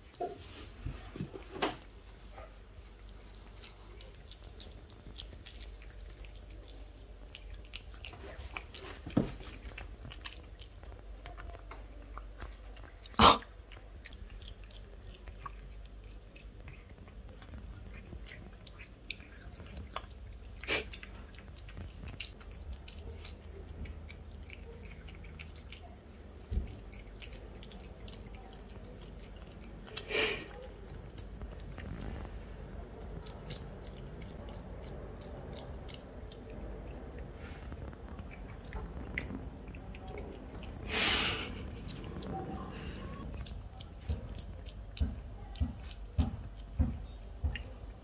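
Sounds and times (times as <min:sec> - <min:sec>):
cat chewing and licking: 0:00.0 - 0:48.0.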